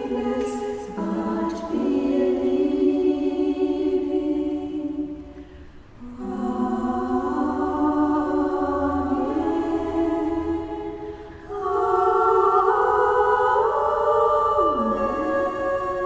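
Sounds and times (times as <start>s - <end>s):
choir singing held notes: 0.0s - 16.0s.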